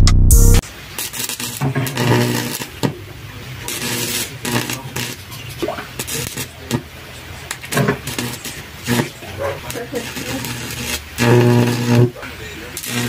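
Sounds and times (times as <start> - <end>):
welding arc crackling and buzzing: 0.4 - 13.0.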